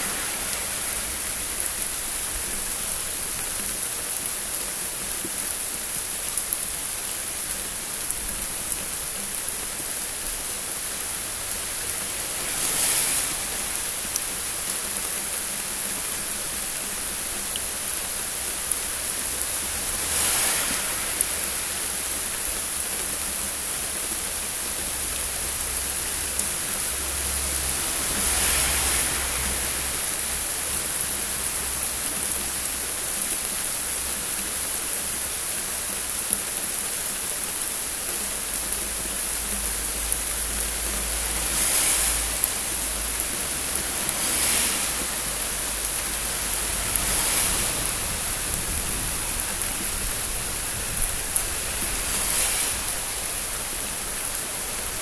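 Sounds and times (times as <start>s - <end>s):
heavy rain hiss: 0.0s - 55.0s
raindrops ticking close by: 0.0s - 55.0s.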